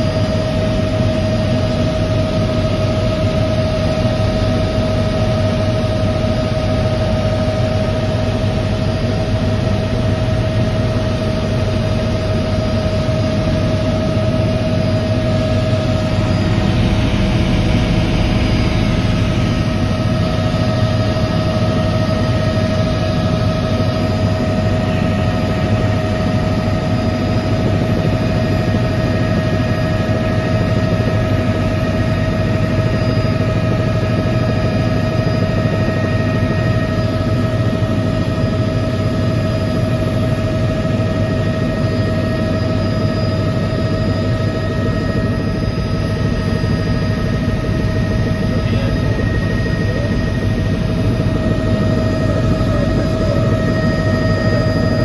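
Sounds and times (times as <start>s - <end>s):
helicopter engine and rotor drone: 0.0s - 55.0s
steady whine: 0.0s - 55.0s.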